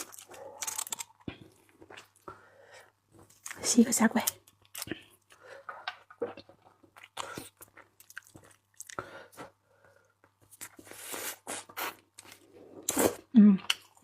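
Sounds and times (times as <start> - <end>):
person chewing seafood: 0.0 - 3.6, 4.4 - 14.0.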